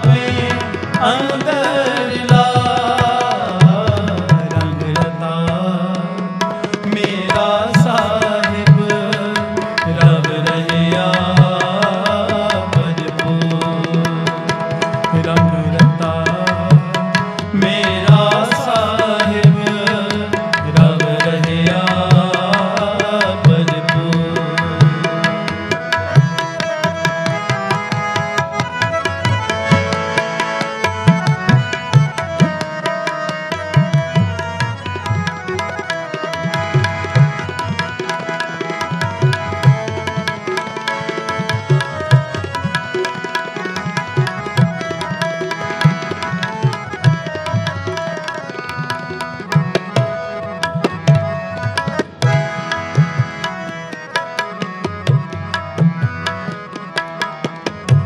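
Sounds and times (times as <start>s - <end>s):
harmonium chords: 0.0s - 58.0s
tabla playing a rhythm: 0.0s - 58.0s.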